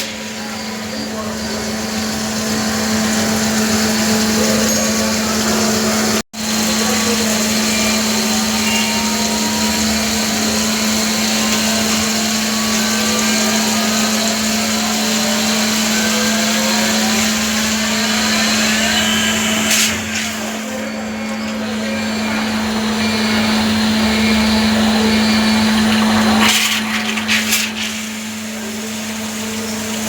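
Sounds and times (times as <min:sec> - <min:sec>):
lathe hum and whirring: 0:00.0 - 0:30.0.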